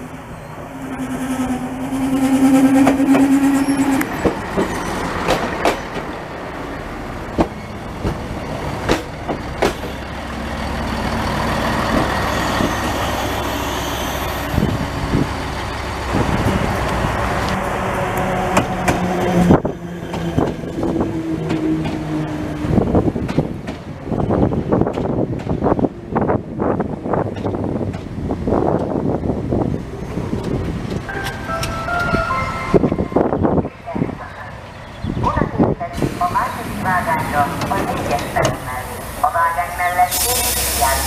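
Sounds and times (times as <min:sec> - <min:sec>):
diesel railcar passing: 0:00.0 - 0:41.0
train running noise: 0:00.0 - 0:41.0.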